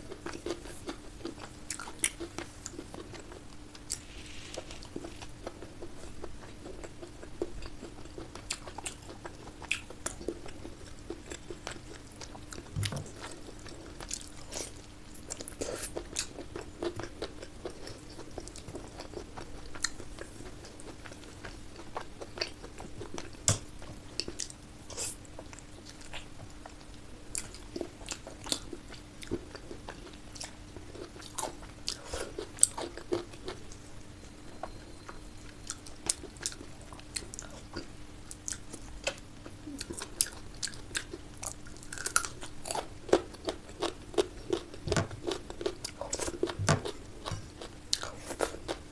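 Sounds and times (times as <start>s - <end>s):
chewing with wet mouth smacks: 0.0s - 4.0s, 4.8s - 33.9s, 34.5s - 48.8s
faint steady hum: 0.0s - 48.9s.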